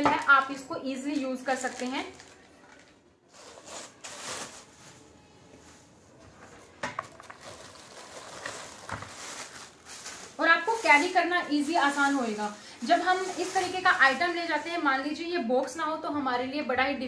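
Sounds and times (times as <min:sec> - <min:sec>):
plastic bag rustling: 0:00.0 - 0:15.2.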